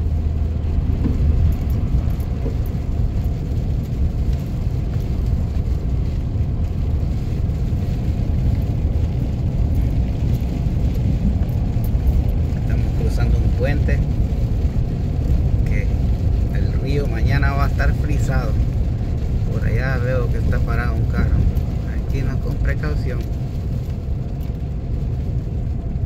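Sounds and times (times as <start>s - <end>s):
tyres on snowy road rumbling: 0.0s - 26.0s.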